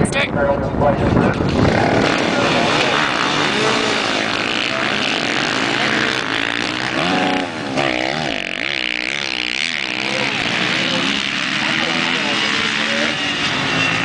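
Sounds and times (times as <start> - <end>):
motorcycles revving and accelerating: 0.0 - 14.0.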